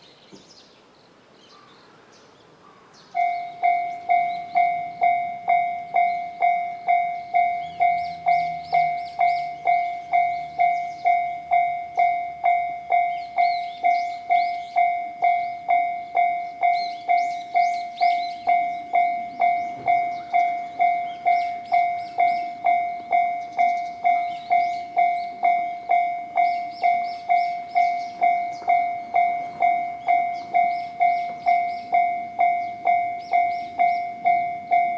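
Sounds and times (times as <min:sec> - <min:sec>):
level crossing bell clanging: 0:03.2 - 0:34.9.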